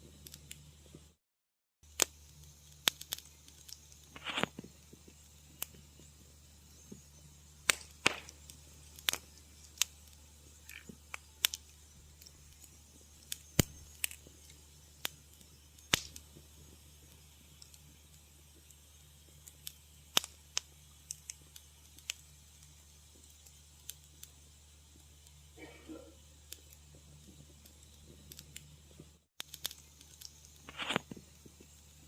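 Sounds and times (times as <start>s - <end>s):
fire crackling and popping: 0.0s - 1.2s, 1.8s - 32.0s
hissing flare: 1.9s - 32.0s
steady low hum: 1.9s - 32.0s.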